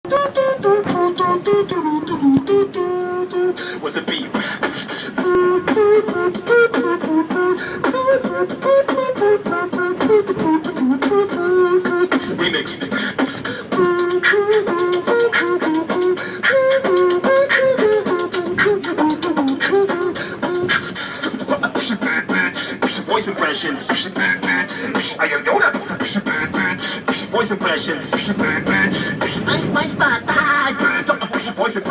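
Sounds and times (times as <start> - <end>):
hummed melody: 0.1 - 4.4, 5.1 - 31.9
man beatboxing: 3.3 - 31.9.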